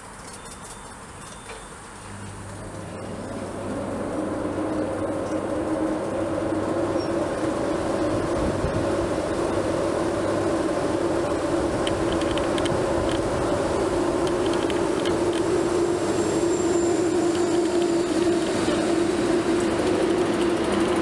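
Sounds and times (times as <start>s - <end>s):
electric locomotive hum: 0.0s - 21.0s.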